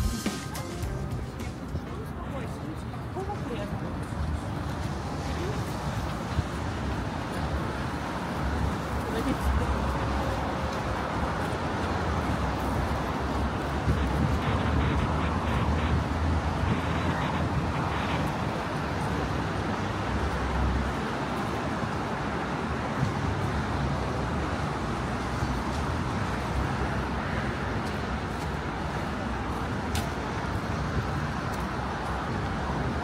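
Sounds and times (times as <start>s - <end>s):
cars passing on busy road: 0.0s - 33.0s.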